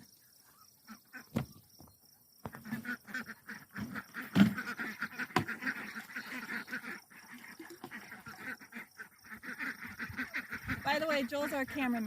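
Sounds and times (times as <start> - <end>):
ducks quacking: 0.6 - 1.6, 2.5 - 12.0.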